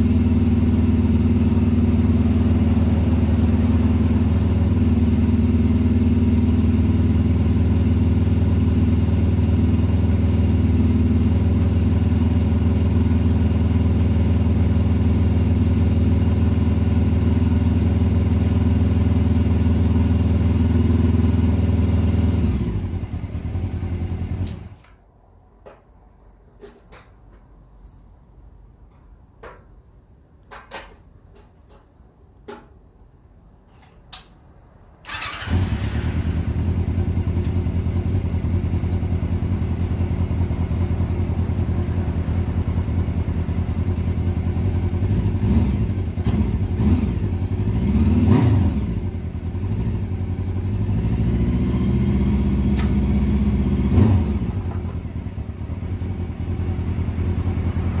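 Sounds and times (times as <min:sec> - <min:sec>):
motorcycle engine starting and idling: 0:00.0 - 0:27.6, 0:33.6 - 0:58.0.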